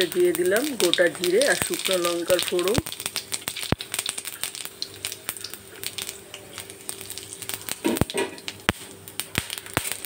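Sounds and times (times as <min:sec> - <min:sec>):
seeds popping in hot oil: 0:00.0 - 0:10.0.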